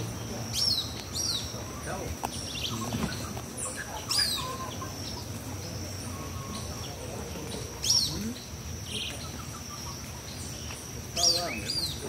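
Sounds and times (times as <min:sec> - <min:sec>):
soft bird chirps: 0:00.0 - 0:12.0.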